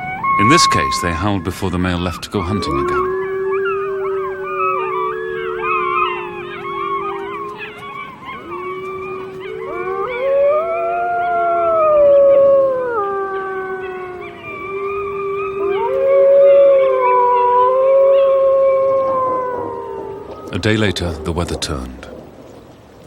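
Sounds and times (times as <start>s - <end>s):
wolves howling in chorus: 0.0s - 22.3s.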